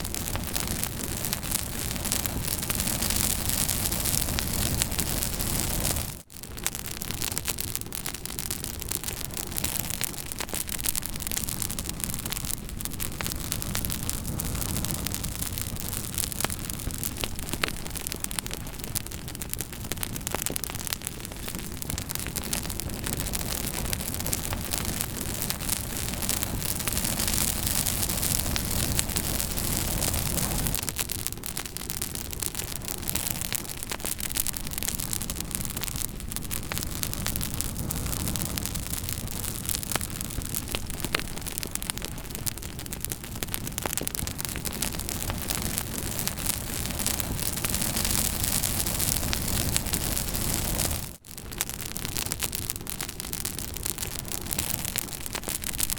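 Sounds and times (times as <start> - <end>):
fire hiss: 0.0 - 6.6, 7.2 - 51.2
campfire crackling: 0.0 - 55.9.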